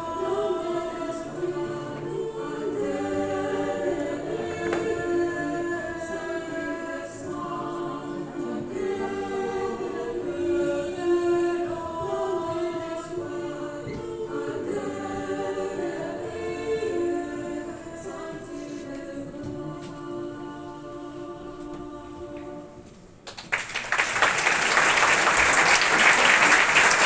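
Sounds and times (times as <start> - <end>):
choir singing long chords: 0.0 - 23.0, 24.0 - 27.0.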